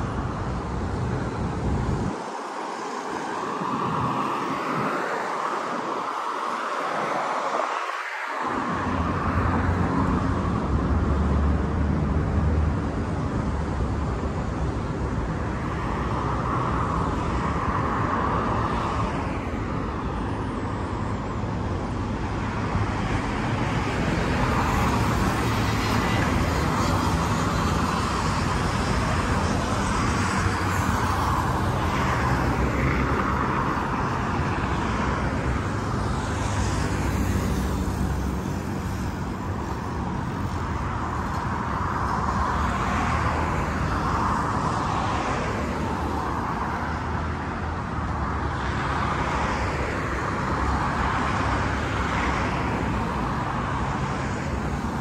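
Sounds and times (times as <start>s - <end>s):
cars passing: 0.0s - 55.0s
road traffic noise: 0.0s - 55.0s.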